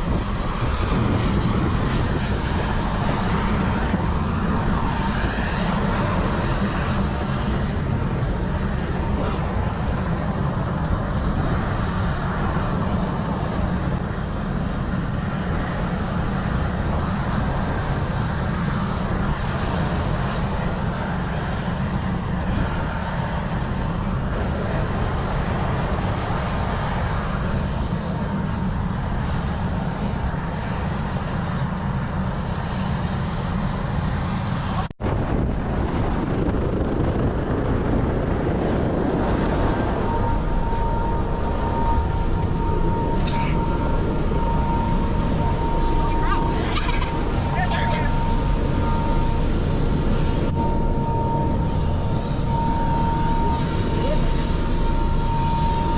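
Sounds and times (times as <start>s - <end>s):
helicopter cabin drone: 0.0s - 55.9s.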